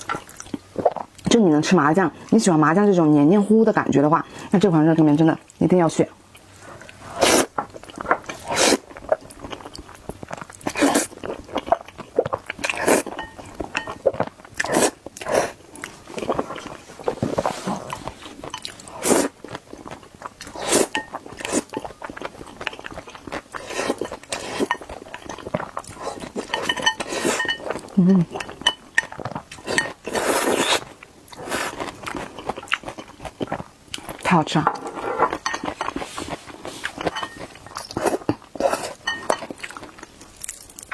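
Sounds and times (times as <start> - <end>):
wet chewing and mouth sounds: 6.3 - 40.9.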